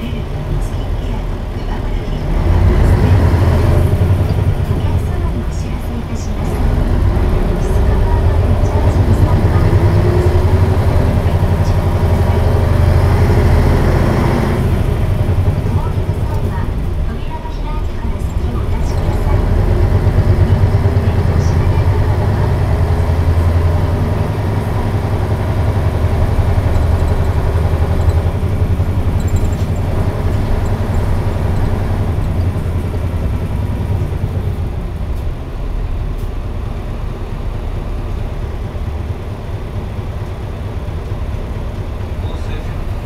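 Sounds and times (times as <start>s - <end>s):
bus engine hum: 0.0s - 43.0s.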